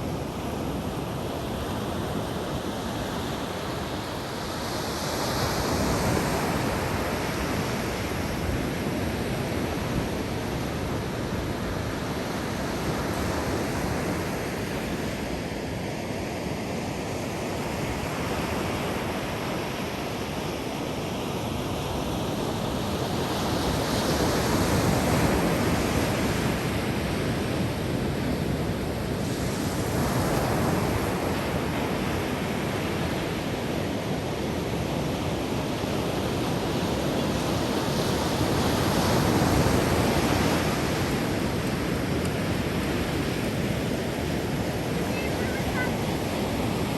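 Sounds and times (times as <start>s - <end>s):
ocean waves breaking on beach: 0.0s - 46.9s.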